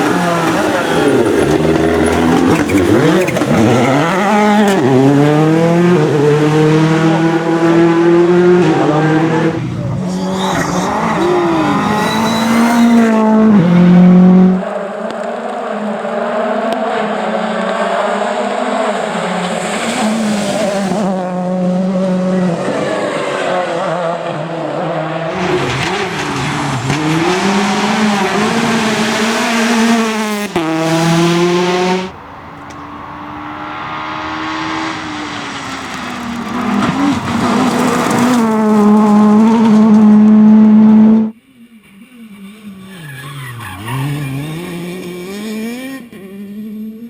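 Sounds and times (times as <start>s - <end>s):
rally cars racing past: 0.0s - 47.0s.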